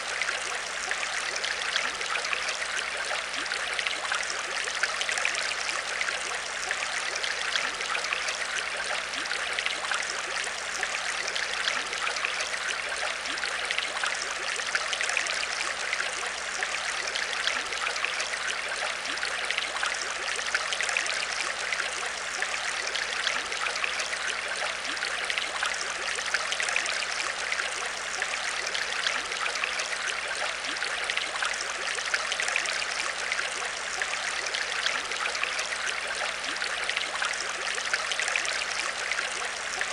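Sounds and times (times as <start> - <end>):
aquarium water trickling: 0.0 - 39.9
faint steady hum: 0.0 - 39.9.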